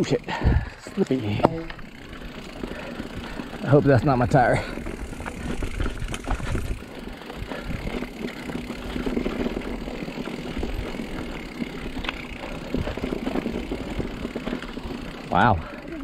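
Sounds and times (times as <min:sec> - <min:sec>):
bike tyres rolling on dirt: 0:00.0 - 0:16.0
bike knocks and rattles: 0:00.3 - 0:15.3.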